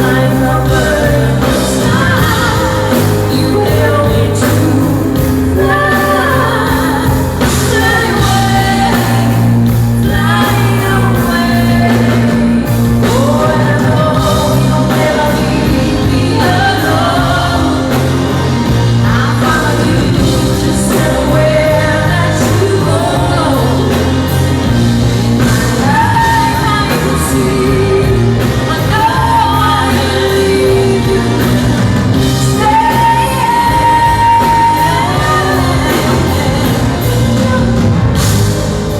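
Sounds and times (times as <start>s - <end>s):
live pop-rock band: 0.0s - 38.9s
steady bass line: 0.0s - 38.9s
woman singing lead: 0.0s - 38.9s.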